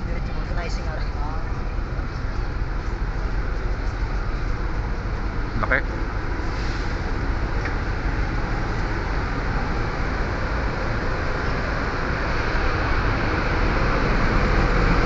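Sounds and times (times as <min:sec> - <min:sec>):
engine rumble and machinery noise: 0:00.0 - 0:15.0.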